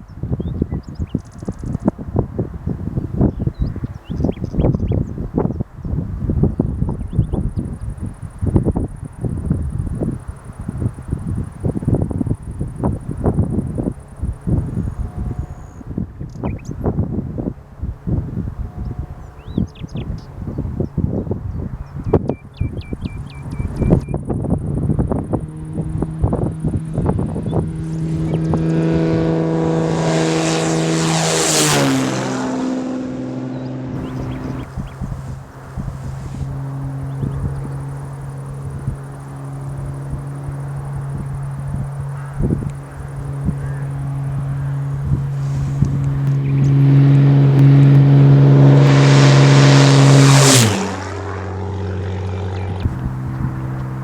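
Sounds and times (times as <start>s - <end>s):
propeller plane flying past: 0.0s - 54.0s.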